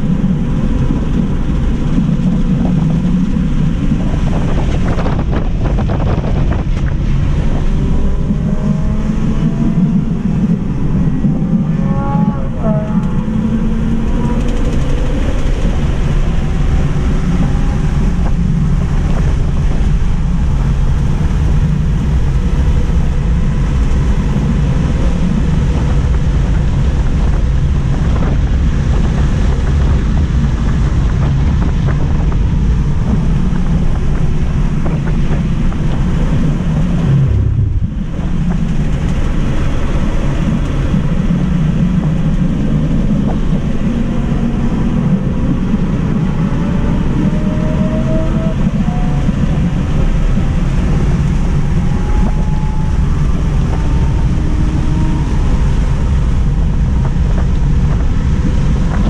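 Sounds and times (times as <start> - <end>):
wind and road noise in car cabin: 0.0 - 59.0.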